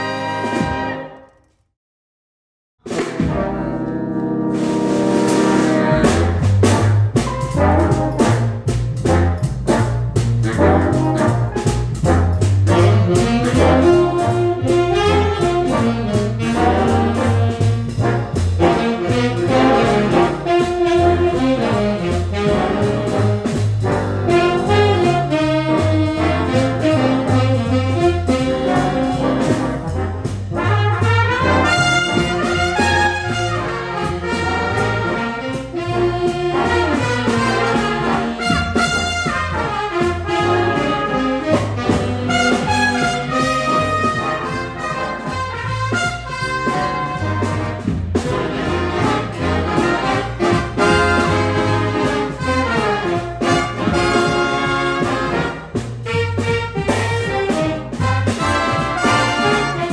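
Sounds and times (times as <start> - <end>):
brass band track with trumpet: 0.0 - 1.4, 2.8 - 59.9.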